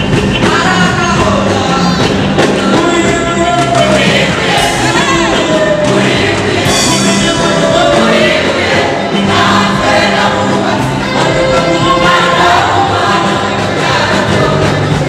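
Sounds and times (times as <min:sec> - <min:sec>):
instrumental backing with low bass: 0:00.0 - 0:15.0
women's choir singing gospel: 0:00.4 - 0:15.0.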